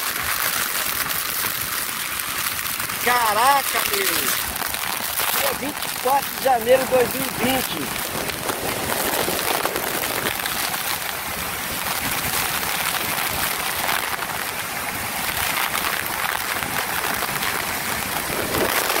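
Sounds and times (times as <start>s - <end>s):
waterfall rushing: 1.5s - 19.0s.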